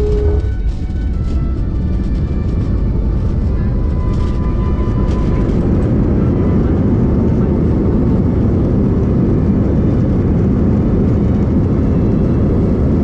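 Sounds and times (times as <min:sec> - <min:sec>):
jet engine and wheel rumble: 0:00.0 - 0:13.0.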